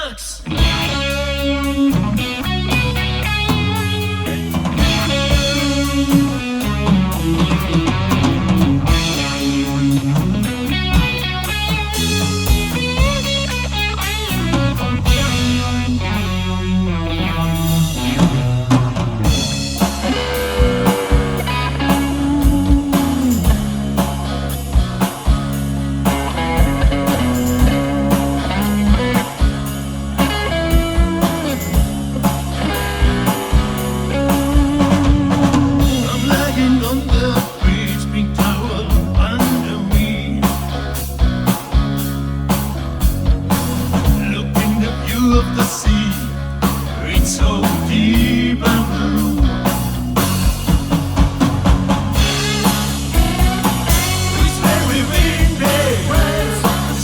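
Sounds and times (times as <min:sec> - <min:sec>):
rock music: 0:00.0 - 0:57.0.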